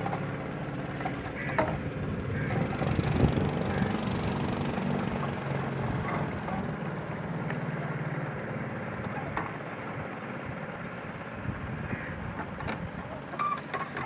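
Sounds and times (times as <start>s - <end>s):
motorboat engine running: 0.0s - 14.0s
wind and water hiss: 0.0s - 14.0s.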